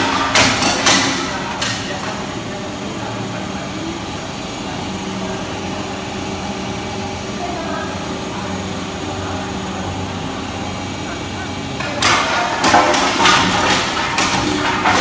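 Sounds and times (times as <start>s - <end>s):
shredder machine running: 0.0s - 15.0s.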